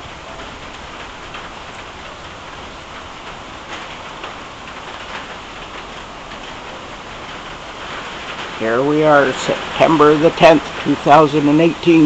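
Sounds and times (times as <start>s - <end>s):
raindrop splashes: 0.0s - 12.0s
steady rain hiss: 0.0s - 12.0s.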